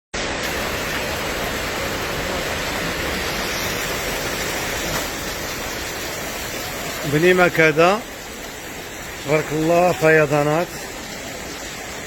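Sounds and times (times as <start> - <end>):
rushing water from heavy rain: 0.1 - 12.0.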